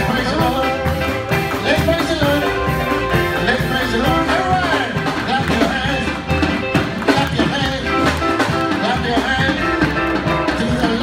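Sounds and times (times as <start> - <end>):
gospel band playing: 0.0 - 11.0
guitar: 0.0 - 11.0
person singing: 0.0 - 11.0.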